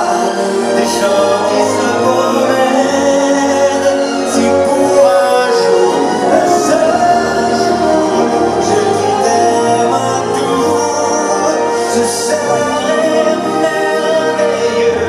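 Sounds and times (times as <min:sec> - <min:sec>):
show music with singing: 0:00.0 - 0:15.0.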